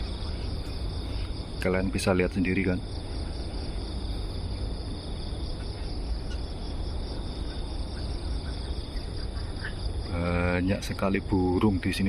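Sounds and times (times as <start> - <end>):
insects shrilling: 0.0 - 12.0
low steady rumble: 0.0 - 12.0.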